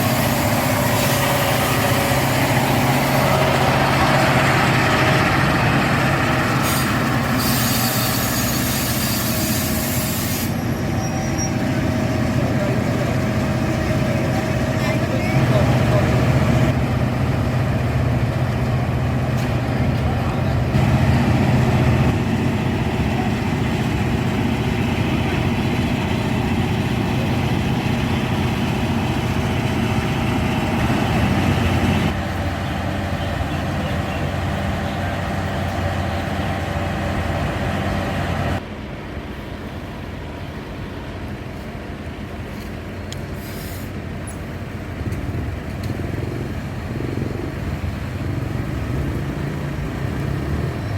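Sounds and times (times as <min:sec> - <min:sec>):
diesel railcar engine humming: 0:00.0 - 0:50.9.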